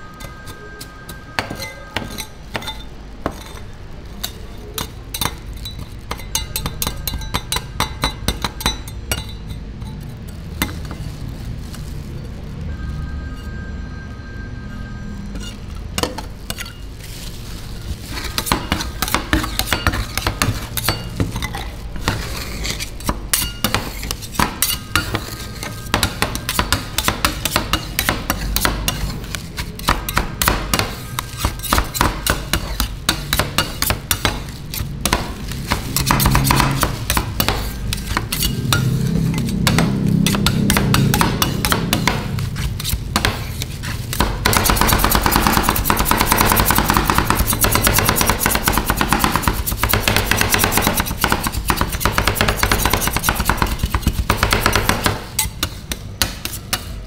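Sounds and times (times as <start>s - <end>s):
metal spatulas chopping on metal pan: 0.0s - 11.2s, 15.4s - 57.0s.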